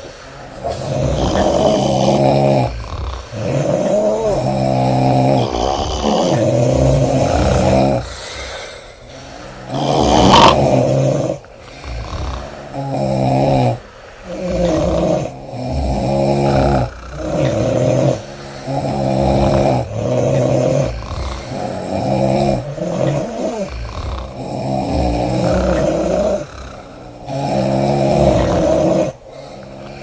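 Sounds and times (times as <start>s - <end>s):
women snoring loudly: 0.0s - 30.0s.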